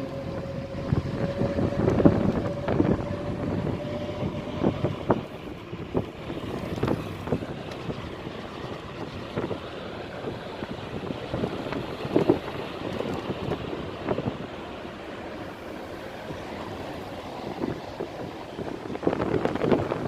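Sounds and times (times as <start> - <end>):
rushing river water: 0.0 - 20.0
wind buffeting microphone: 0.0 - 20.0.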